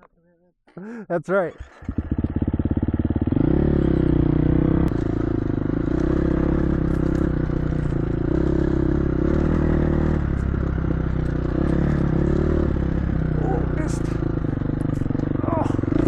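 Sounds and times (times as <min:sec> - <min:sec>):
dirt bike engine running: 0:01.6 - 0:16.0.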